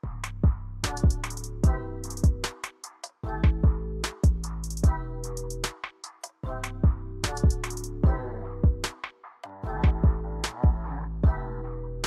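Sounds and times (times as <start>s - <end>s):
electronic music with deep kicks: 0.0s - 9.0s, 9.6s - 12.0s.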